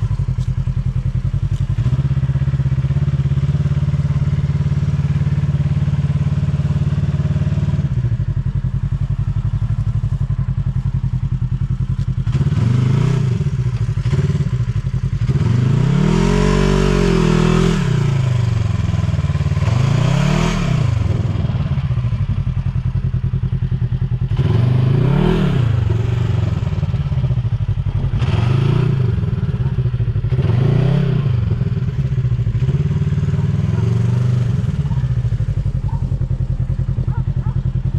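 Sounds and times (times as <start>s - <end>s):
engine idling and revving: 0.0s - 37.9s.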